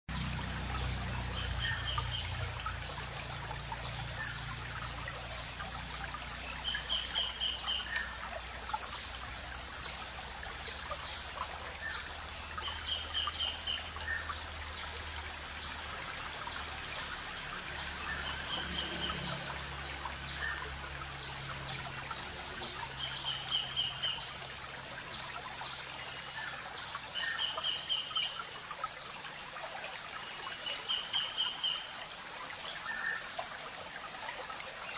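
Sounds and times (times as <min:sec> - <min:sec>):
stream trickling and babbling: 0:00.1 - 0:34.9.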